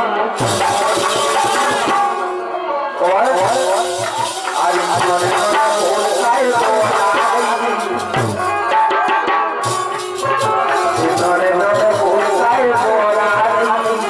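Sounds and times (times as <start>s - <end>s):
harmonium playing: 0.0s - 14.0s
steady drum rhythm: 0.3s - 2.4s, 3.0s - 14.0s
jingling small percussion: 0.4s - 2.4s, 3.0s - 14.0s.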